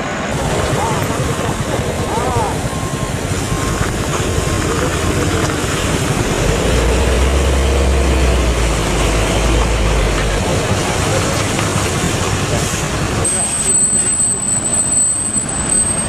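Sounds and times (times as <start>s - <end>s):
heavy truck engine rumble: 0.0s - 16.0s
road noise: 0.0s - 16.0s.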